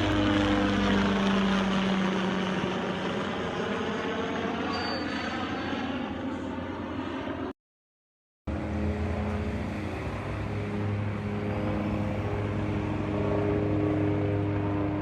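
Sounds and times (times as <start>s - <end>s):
helicopter engine and rotor drone: 0.0s - 7.6s, 8.5s - 15.0s.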